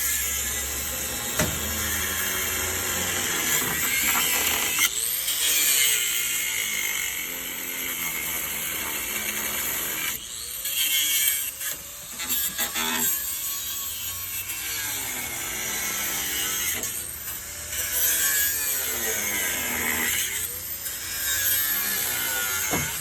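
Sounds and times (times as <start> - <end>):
power saw cutting metal: 0.0 - 23.0.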